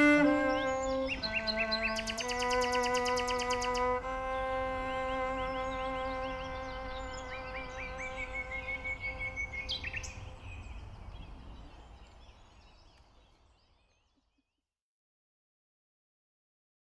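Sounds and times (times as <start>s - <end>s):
nightingale singing: 0.0s - 14.5s.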